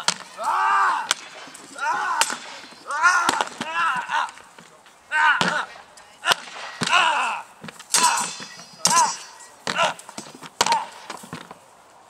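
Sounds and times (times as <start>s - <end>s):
swords striking shields: 0.0s - 11.5s.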